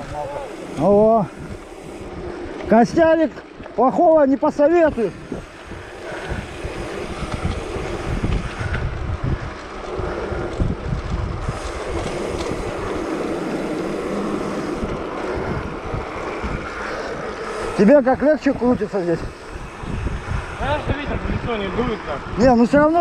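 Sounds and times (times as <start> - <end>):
rushing hiss of riding: 0.0 - 3.0, 4.6 - 10.6, 11.3 - 22.2
wind buffeting microphone: 0.0 - 23.0.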